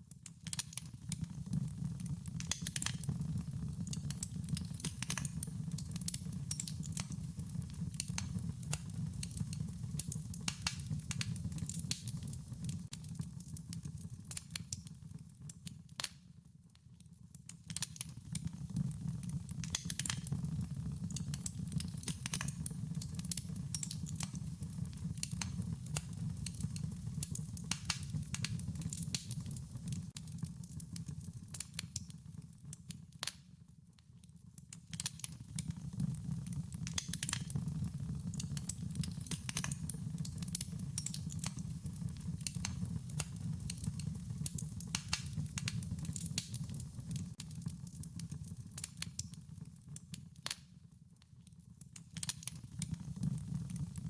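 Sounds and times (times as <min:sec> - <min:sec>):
wood crackling and popping: 0:00.2 - 0:16.2, 0:17.4 - 0:33.5, 0:34.6 - 0:50.6, 0:51.8 - 0:54.0.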